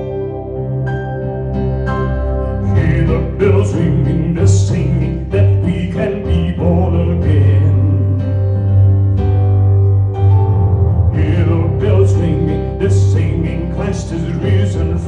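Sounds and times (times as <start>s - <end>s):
gospel song with held chords: 0.0s - 15.0s.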